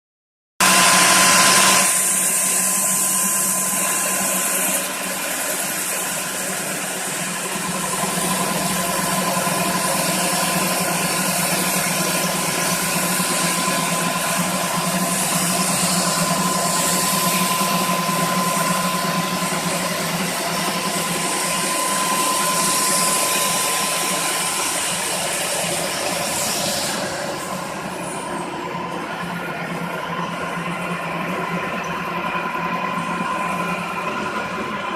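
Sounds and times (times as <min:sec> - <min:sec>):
floor grinding machine running: 0:00.6 - 0:34.9.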